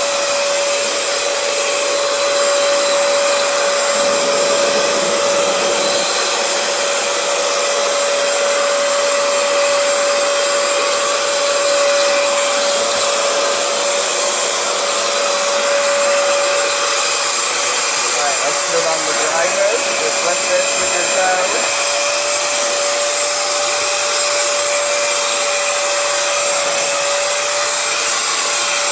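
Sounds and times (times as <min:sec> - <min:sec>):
floor cleaner motor whining: 0:00.0 - 0:28.9.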